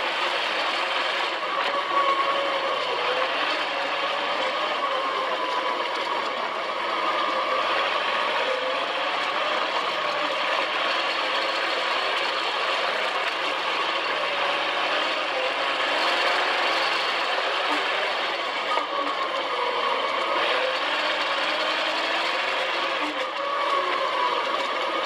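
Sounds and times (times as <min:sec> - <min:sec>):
sand buggy engine running: 0:00.0 - 0:25.0.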